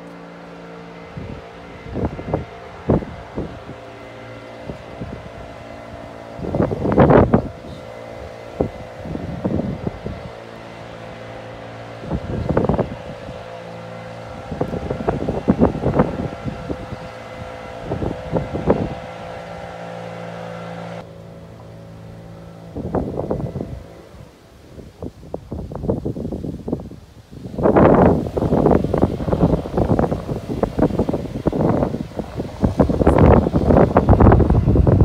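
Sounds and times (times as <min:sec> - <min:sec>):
wind buffeting microphone: 0:00.0 - 0:21.1, 0:21.7 - 0:35.0
low mechanical hum: 0:00.0 - 0:35.0.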